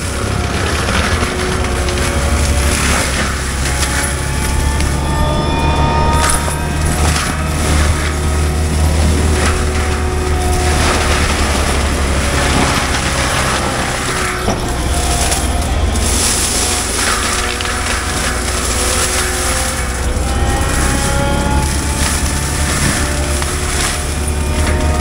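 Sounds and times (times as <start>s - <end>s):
diesel engine under load: 0.0s - 25.0s
mulcher shredding brush: 0.0s - 25.0s.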